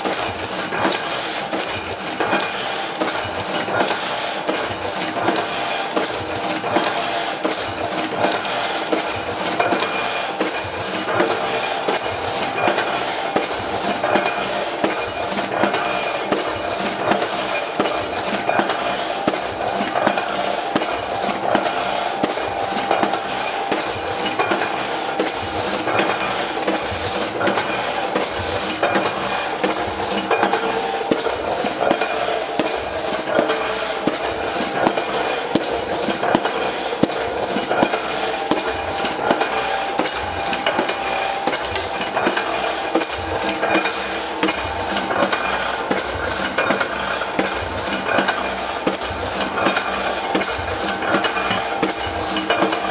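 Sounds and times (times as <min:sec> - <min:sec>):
printing press clattering: 0:00.0 - 0:52.9.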